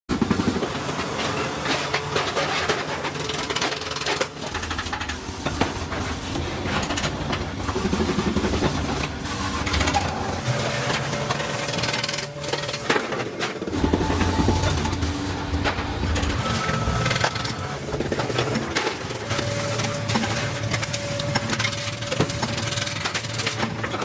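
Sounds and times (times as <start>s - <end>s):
mechanical background noise: 0.1s - 24.0s.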